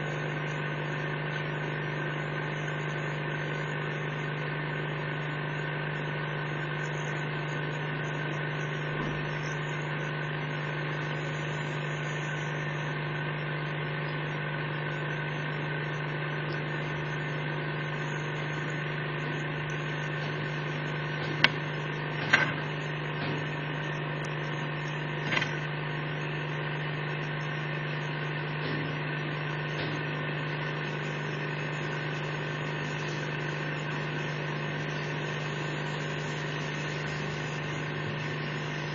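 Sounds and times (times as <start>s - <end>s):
small motor humming: 0.0s - 38.9s.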